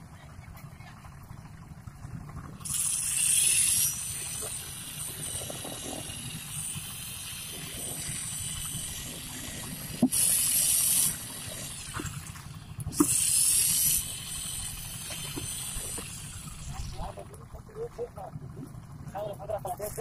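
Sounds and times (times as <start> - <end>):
concrete vibrator whining: 0.0 - 20.0.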